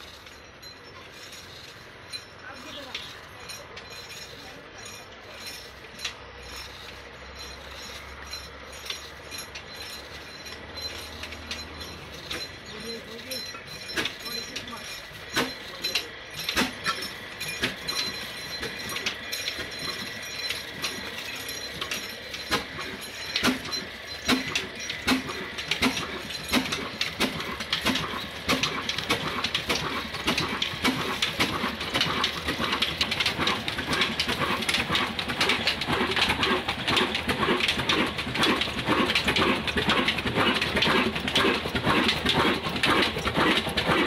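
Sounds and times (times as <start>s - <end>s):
diesel engine clattering: 0.0s - 44.0s.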